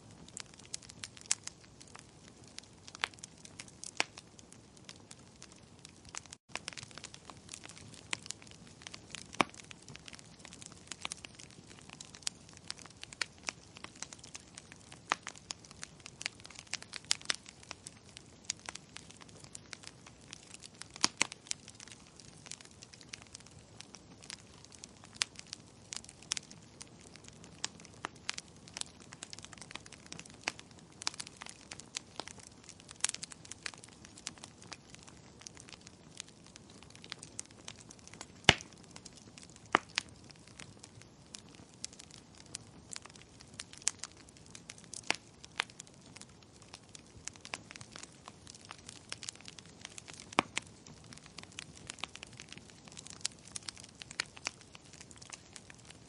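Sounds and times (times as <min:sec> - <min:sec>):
low fire hiss: 0:00.0 - 0:56.0
wood fire pops and snaps: 0:00.1 - 0:56.0.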